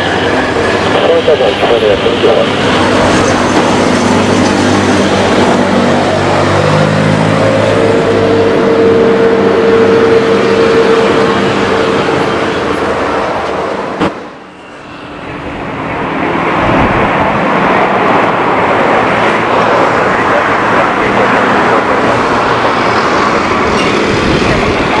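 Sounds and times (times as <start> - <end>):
jet engines whining: 0.0 - 25.0.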